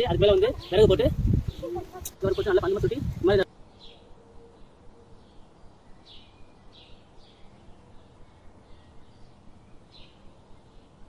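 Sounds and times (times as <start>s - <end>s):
bird chirping: 0.0s - 11.0s
faint outdoor background noise: 0.0s - 11.0s.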